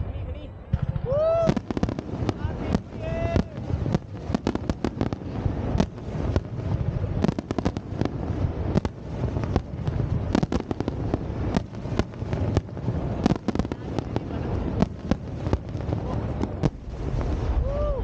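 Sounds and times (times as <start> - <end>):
fireworks bangs and crackles: 0.0 - 18.0
steady low rumble: 0.0 - 18.0.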